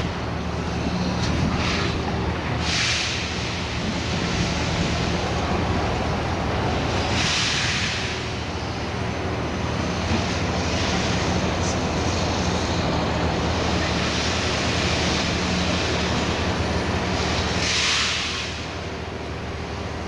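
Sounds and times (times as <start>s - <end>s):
excavator diesel engine running: 0.0s - 20.0s
rushing noise: 0.0s - 20.0s.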